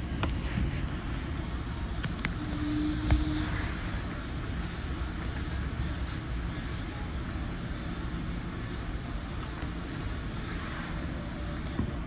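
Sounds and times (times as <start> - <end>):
train rumbling along track: 0.0 - 12.0.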